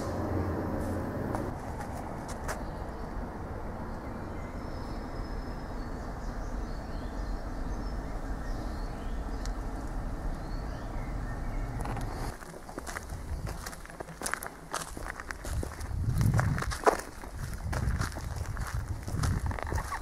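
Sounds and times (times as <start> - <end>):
low rumbling outdoor noise: 0.0 - 20.0
small birds chirping: 2.4 - 20.0.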